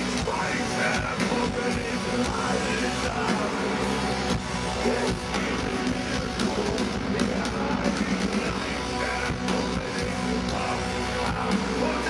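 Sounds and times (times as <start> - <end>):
distorted electric guitars: 0.0 - 12.0
pounding drum kit: 0.0 - 12.0.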